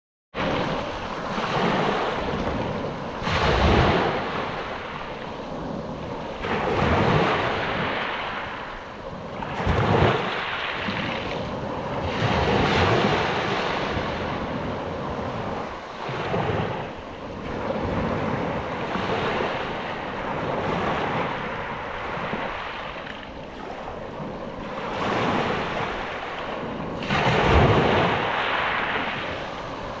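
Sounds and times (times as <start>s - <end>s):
sea waves washing in: 0.4s - 30.0s.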